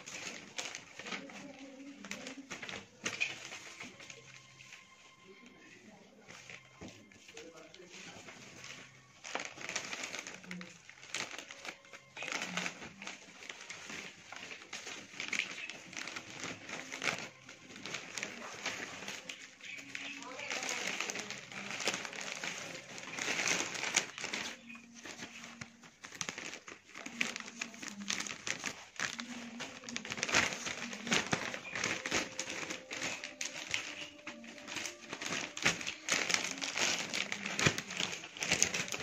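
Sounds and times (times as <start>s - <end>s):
plastic bags crinkling: 0.0s - 39.0s.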